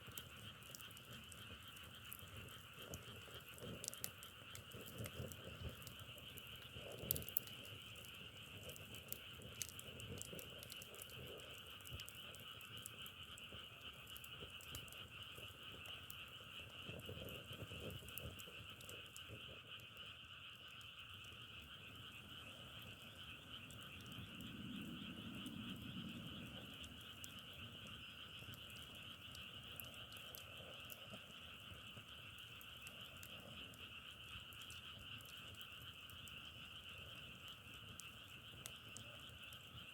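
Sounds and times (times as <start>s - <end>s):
light crackles and clicks: 0.0s - 39.9s
chorus of frogs calling: 0.1s - 39.9s.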